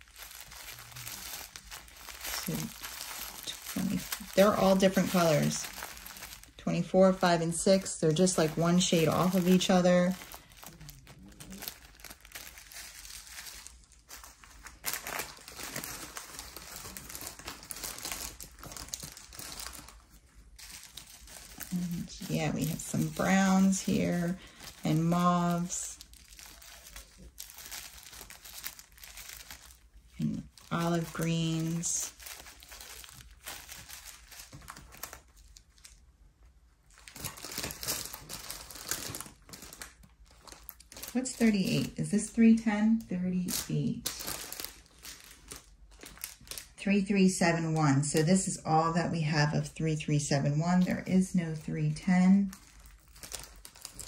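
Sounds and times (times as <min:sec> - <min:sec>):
plastic bags crinkling: 0:00.0 - 0:47.0, 0:50.7 - 0:54.0.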